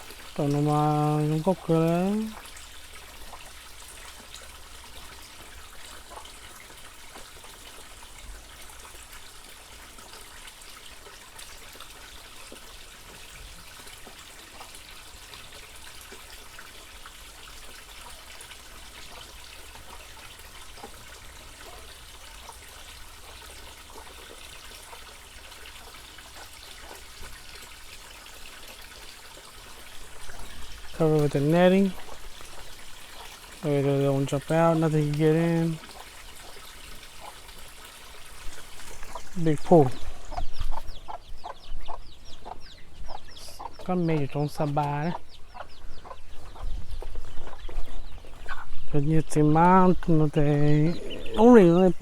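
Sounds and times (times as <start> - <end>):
water trickling: 0.0 - 52.0.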